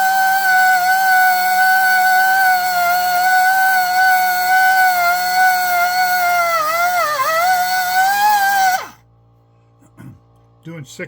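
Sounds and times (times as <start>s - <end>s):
rotary tool whining: 0.0s - 9.0s.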